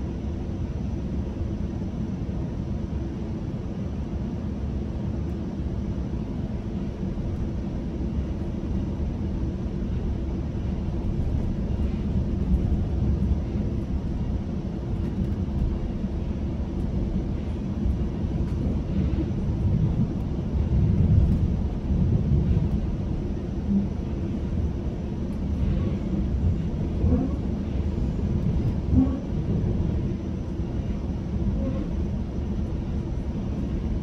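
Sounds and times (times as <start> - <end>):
train wheels rumbling on rail: 4.2 - 34.0.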